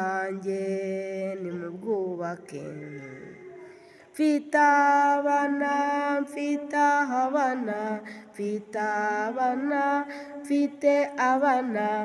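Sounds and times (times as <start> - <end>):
woman singing a hymn unaccompanied: 0.0 - 12.0.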